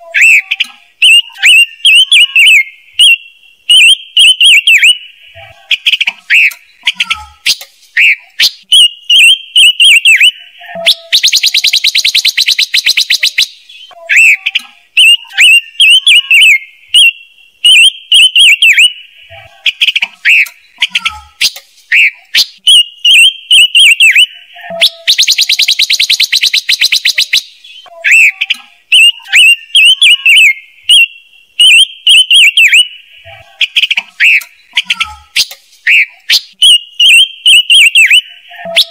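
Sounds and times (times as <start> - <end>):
bird chirping phrases: 0.0 - 38.9.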